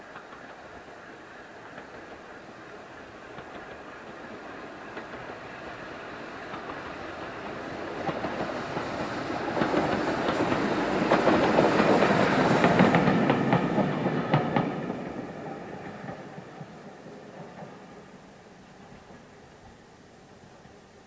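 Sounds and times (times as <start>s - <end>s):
wheels clicking over rail joints: 0.0s - 18.2s
steam train passing: 0.0s - 21.0s.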